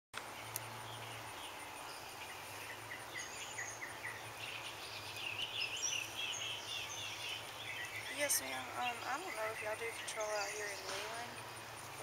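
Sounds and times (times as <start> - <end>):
steady background hiss: 0.2 - 12.0
small bird chirping: 0.3 - 12.0.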